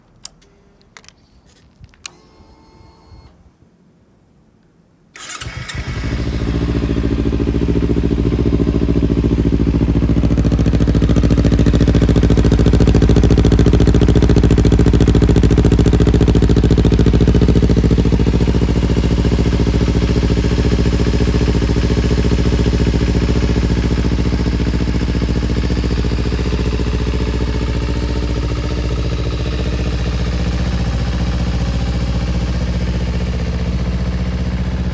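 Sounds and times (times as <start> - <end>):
motorcycle engine starting and idling: 5.2 - 34.9.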